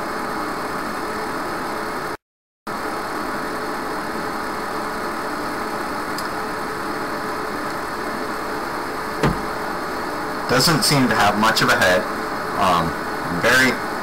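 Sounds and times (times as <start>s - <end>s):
faint constant hum: 0.0s - 14.0s.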